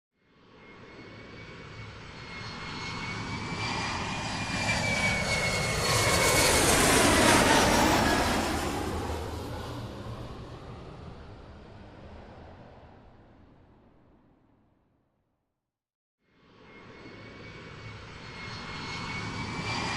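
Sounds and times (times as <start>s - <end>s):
airplane flying over: 0.3s - 14.8s, 16.4s - 19.9s.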